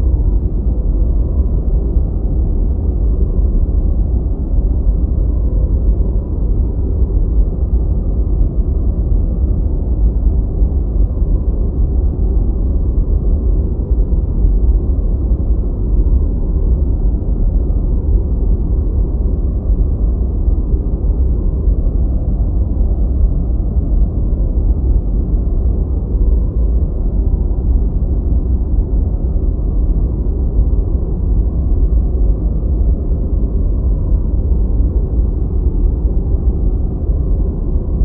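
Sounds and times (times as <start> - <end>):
deep white noise: 0.0 - 38.0.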